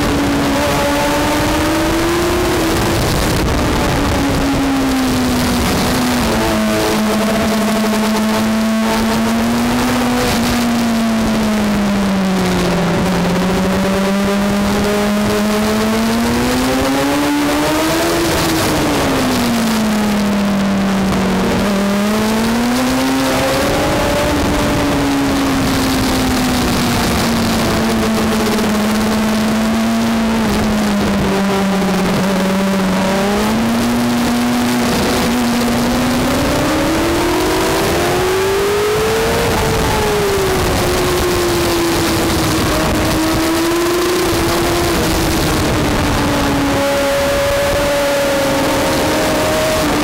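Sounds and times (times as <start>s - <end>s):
racing engine at high revs: 0.0s - 50.0s
wind and tyre rush: 0.0s - 50.0s.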